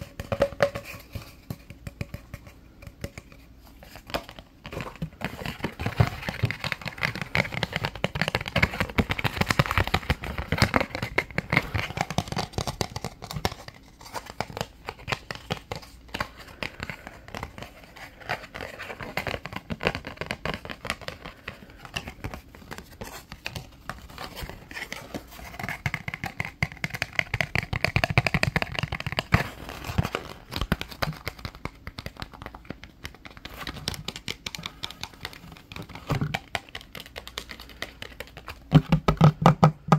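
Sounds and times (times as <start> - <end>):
fingers tapping and scratching card: 0.0 - 39.9
card crinkling: 3.8 - 39.2.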